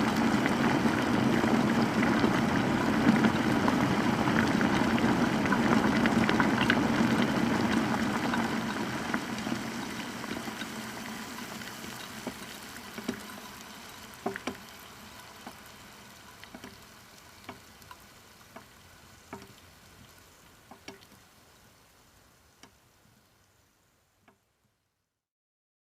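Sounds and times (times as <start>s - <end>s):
water boiling: 0.0s - 24.7s.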